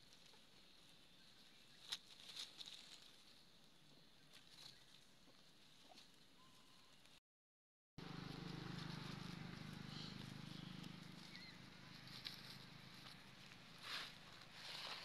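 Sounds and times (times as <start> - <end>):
rustling of dry leaf litter: 0.0 - 7.2, 8.0 - 15.0.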